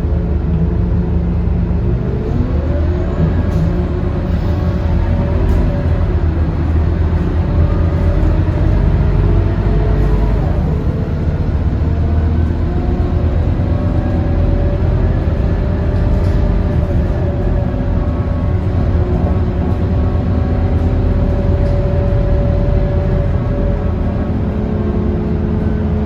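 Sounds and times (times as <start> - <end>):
bus diesel engine drone: 0.0 - 26.0
drivetrain whine: 0.0 - 26.0.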